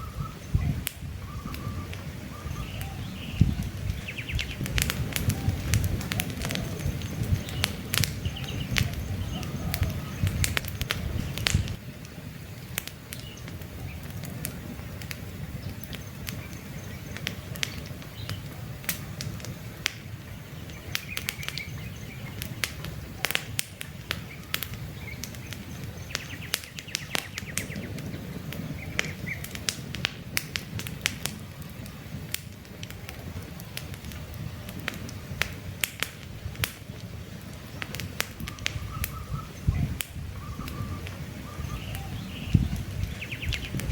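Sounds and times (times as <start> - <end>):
birds chirping faintly: 0.0 - 29.7, 36.8 - 43.9
campfire crackling and popping: 0.0 - 43.9
low rumble of flames: 0.0 - 43.9.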